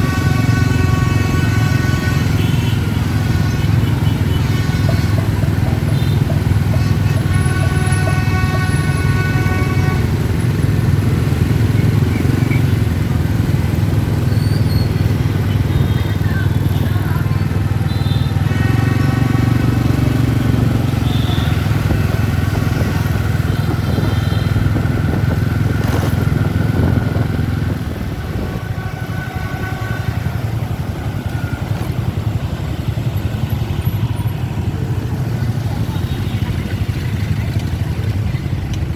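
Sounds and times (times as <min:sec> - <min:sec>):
motorbike traffic: 0:00.0 - 0:38.9.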